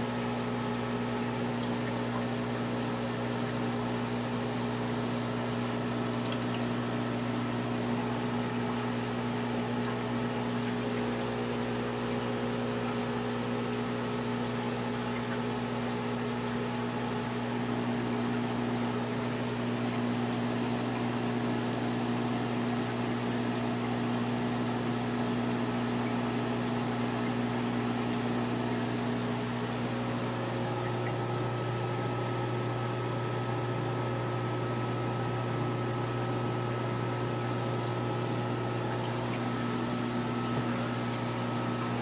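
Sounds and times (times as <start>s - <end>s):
aquarium air pump humming: 0.0s - 42.0s.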